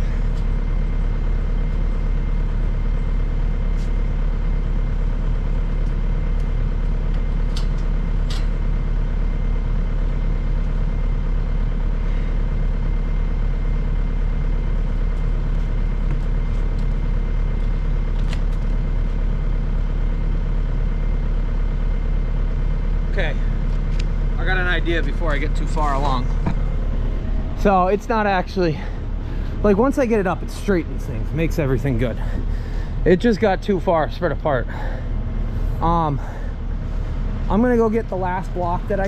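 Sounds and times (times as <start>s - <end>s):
heavy machine engine idling: 0.0s - 39.0s.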